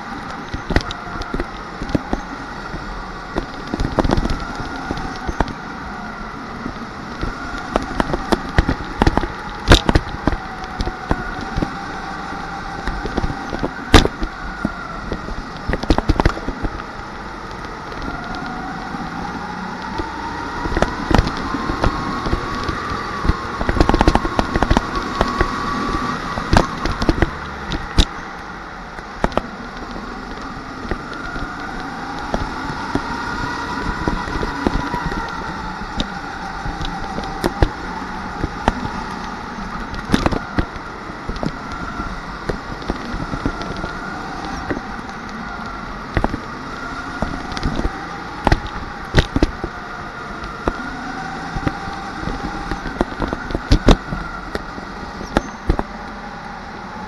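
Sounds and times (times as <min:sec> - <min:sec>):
go-kart motor whine: 0:00.0 - 0:57.0
chassis clicks and knocks: 0:03.3 - 0:05.6, 0:06.6 - 0:56.0.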